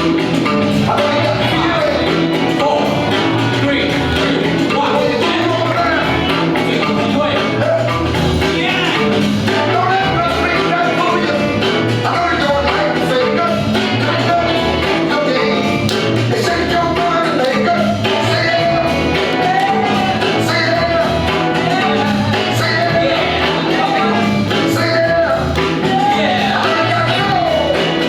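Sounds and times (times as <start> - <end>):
upbeat dance music: 0.0 - 28.0.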